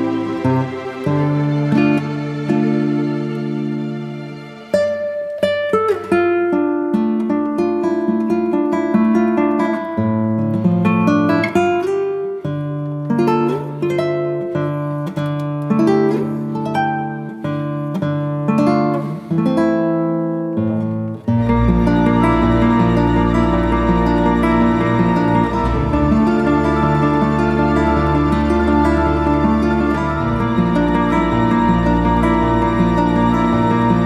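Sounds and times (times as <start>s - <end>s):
acoustic guitar melody: 0.0s - 34.0s.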